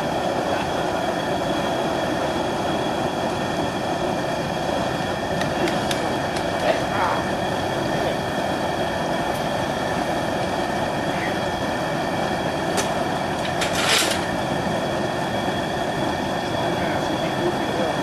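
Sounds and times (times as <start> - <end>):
gas burner flame rushing: 0.0 - 18.0.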